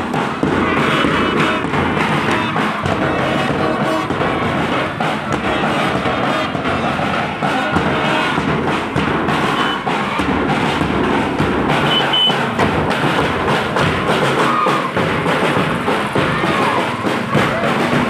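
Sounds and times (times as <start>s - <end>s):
bass drums beating: 0.0s - 18.0s
marching band playing: 0.0s - 18.0s
snare drums beating: 0.0s - 18.0s.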